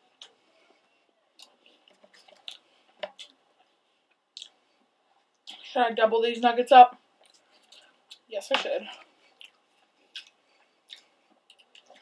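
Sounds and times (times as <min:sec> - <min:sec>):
faint chewing with crunches: 0:00.0 - 0:05.7, 0:07.0 - 0:12.0.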